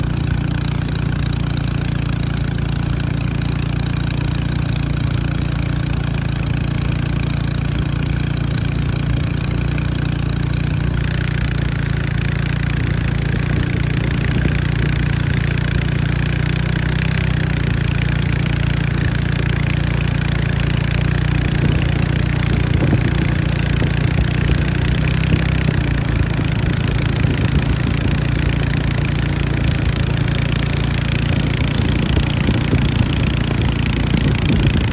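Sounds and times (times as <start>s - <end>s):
small boat engine racing: 0.0s - 34.9s.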